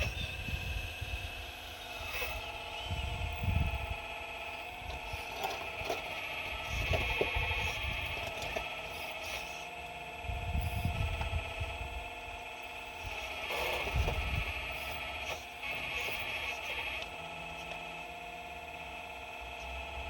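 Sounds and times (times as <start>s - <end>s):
excavator rumbling and scraping rocks: 0.0s - 11.8s, 12.4s - 18.2s
excavator whine: 0.0s - 20.0s.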